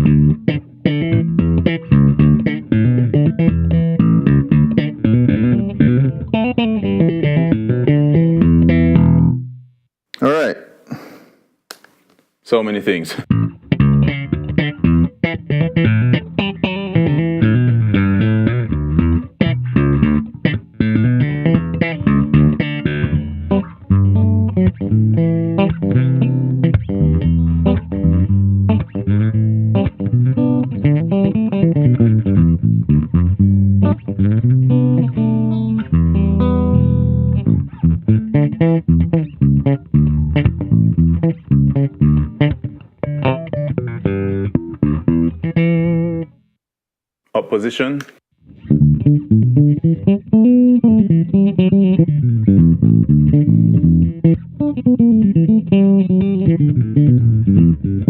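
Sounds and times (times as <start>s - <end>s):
electric bass fast plucked notes: 0.0s - 9.5s, 13.3s - 46.3s, 48.6s - 58.0s.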